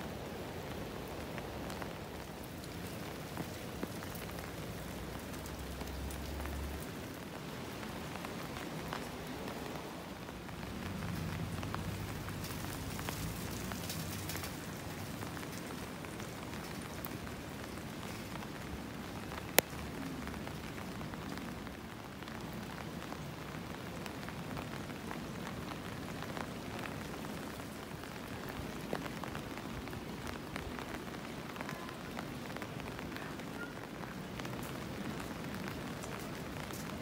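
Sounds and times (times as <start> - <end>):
rain on wet pavement: 0.0 - 37.0.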